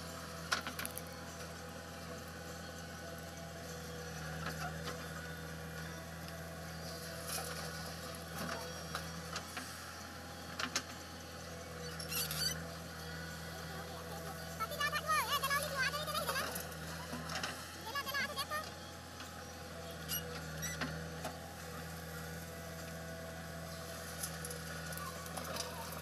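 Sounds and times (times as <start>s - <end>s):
backhoe diesel engine running: 0.0s - 26.0s.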